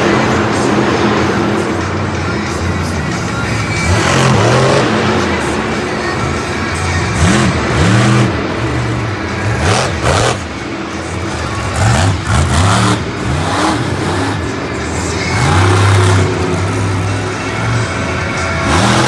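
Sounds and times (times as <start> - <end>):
loud noisy surges: 0.0 - 19.0
truck engine revving: 0.0 - 19.0.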